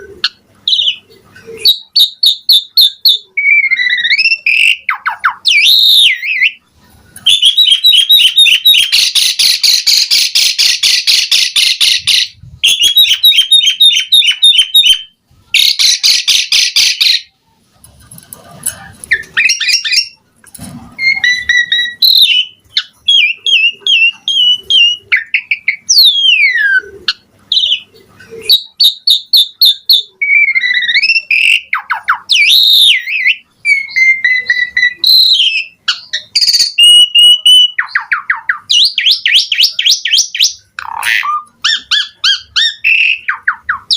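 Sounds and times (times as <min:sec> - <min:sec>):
starling singing trills and whistles: 0:00.0 - 0:17.4, 0:18.7 - 0:20.2, 0:20.9 - 0:43.9.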